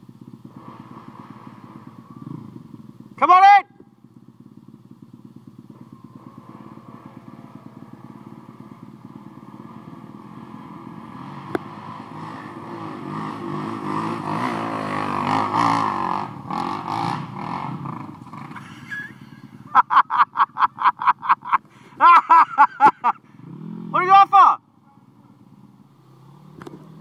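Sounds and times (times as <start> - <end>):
motorbike engine idling: 0.0 - 27.0
motorbike engine revving: 0.0 - 27.0.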